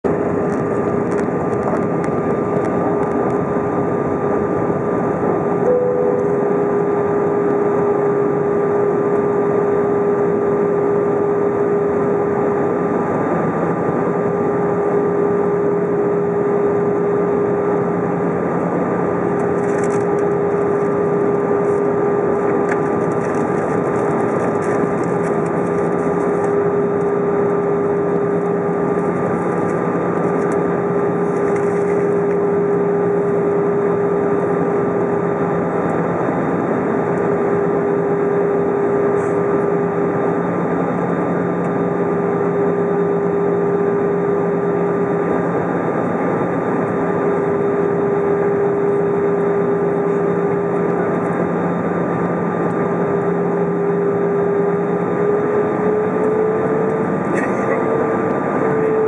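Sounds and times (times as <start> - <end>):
constant cabin hum: 0.0 - 59.0
jet engine and airflow rush: 0.0 - 59.0.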